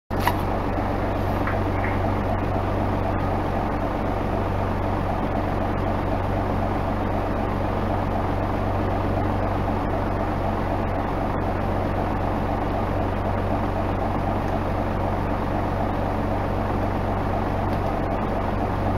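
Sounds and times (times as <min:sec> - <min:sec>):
bus diesel engine humming: 0:00.1 - 0:18.9.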